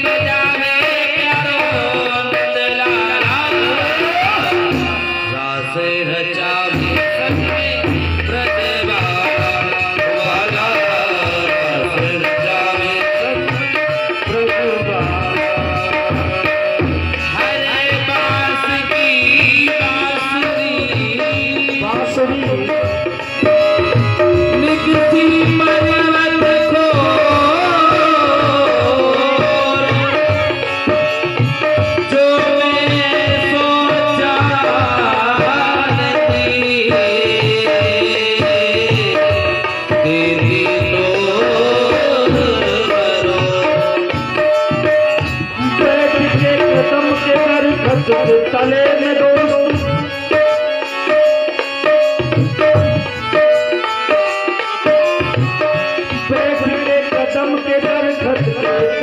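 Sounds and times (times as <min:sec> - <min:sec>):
tabla drumming: 0:00.0 - 0:59.0.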